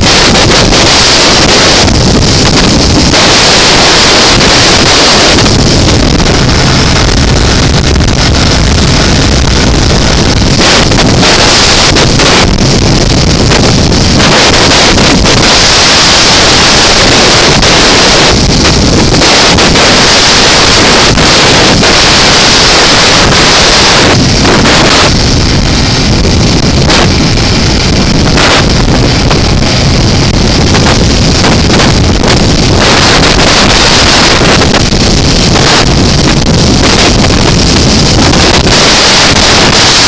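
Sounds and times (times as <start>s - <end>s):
motorcycle engine: 0.0s - 40.0s
road noise: 0.0s - 40.0s
wind buffeting microphone: 0.0s - 40.0s.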